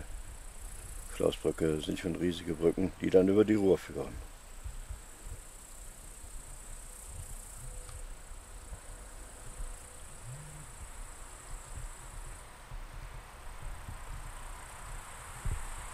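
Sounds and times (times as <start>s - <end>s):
insects chirring: 0.0s - 15.9s.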